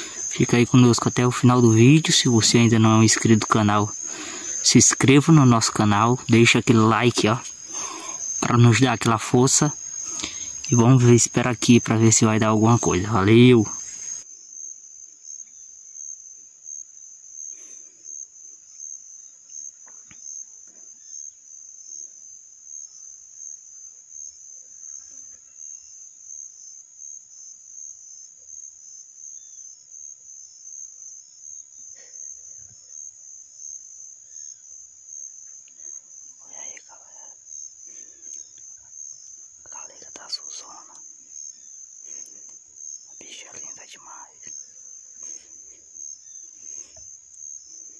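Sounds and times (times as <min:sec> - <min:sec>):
insects chirring: 0:00.0 - 0:47.9.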